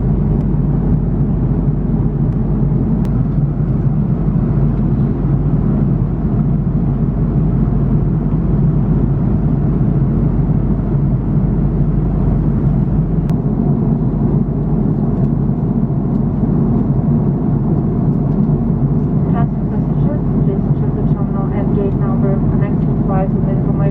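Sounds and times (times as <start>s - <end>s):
airliner cabin rumble: 0.0s - 23.9s.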